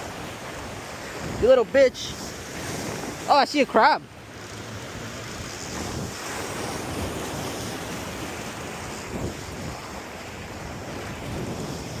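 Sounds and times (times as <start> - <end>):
wind buffeting microphone: 0.0 - 3.3, 4.5 - 12.0
surf washing against rocks: 0.0 - 12.0.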